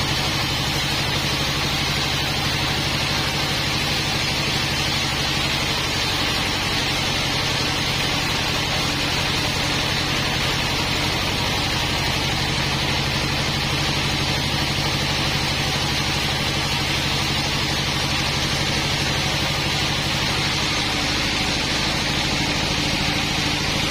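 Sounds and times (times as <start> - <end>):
sawmill engine drone: 0.0 - 23.9.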